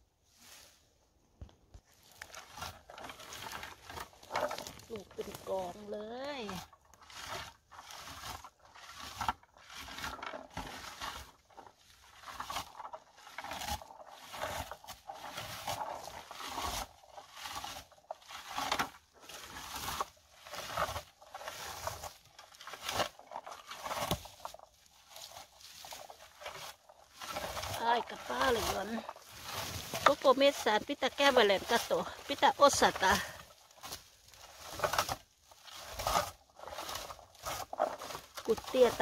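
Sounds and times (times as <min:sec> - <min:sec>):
berry picker rustling through bushes: 0:00.1 - 0:39.0.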